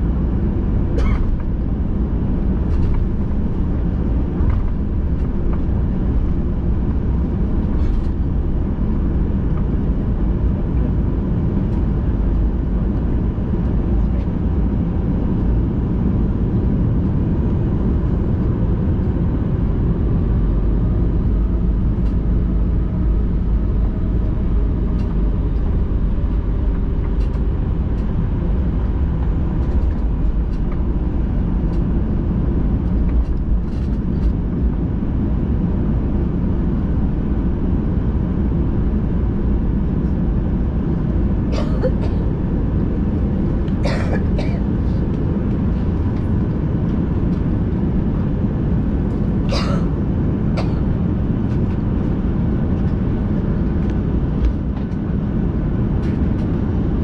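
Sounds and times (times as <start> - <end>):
airplane cabin low rumble: 0.0 - 57.0.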